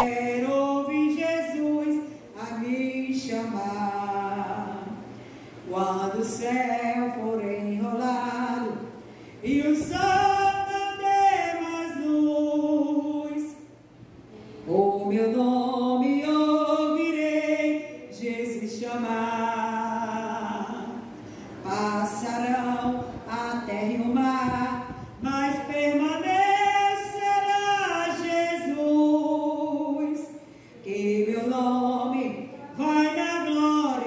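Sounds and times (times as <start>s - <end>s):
woman singing a hymn: 0.0s - 13.8s, 14.6s - 34.0s.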